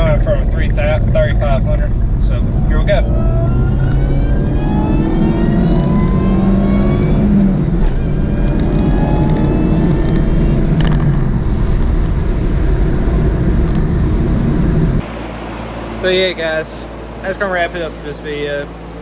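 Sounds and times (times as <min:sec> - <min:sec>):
engine accelerating hard: 0:00.0 - 0:19.0
supercharger whine: 0:00.0 - 0:19.0.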